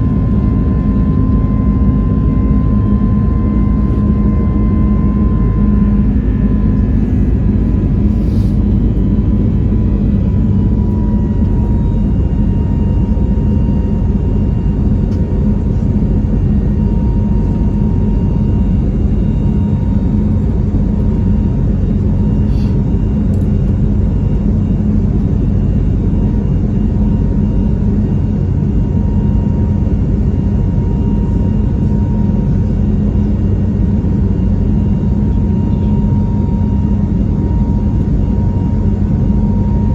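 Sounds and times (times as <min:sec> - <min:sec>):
faint steady whine: 0:00.0 - 0:39.9
jet engines rumbling in cabin: 0:00.0 - 0:39.9.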